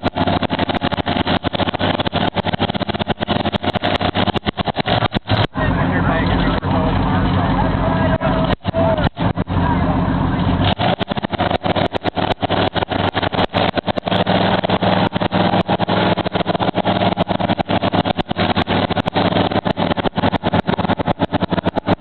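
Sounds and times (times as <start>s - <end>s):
truck engine at high revs: 0.0s - 22.0s.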